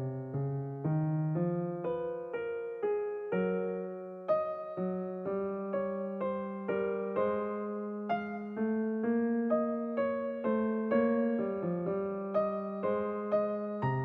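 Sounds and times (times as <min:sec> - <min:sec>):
gentle solo piano: 0:00.0 - 0:14.0.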